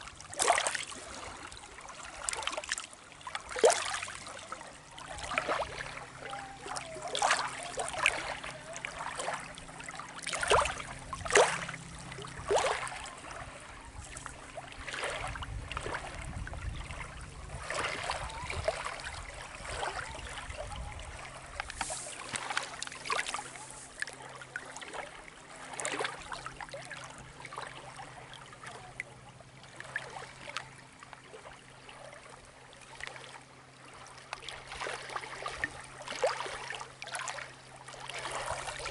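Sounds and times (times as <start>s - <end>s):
water lapping against rocks: 0.0s - 38.9s.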